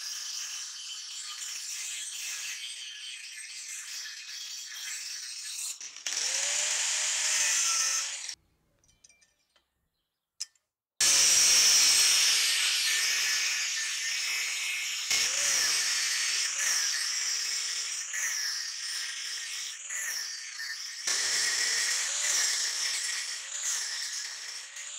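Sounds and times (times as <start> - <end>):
angle grinder cutting steel: 0.0 - 8.4, 11.0 - 24.9.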